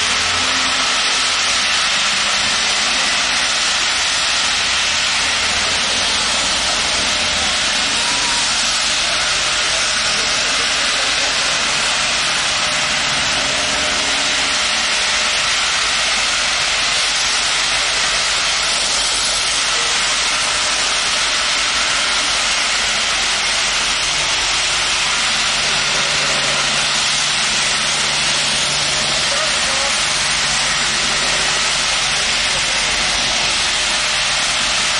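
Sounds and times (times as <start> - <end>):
steam locomotive hissing: 0.0 - 34.9.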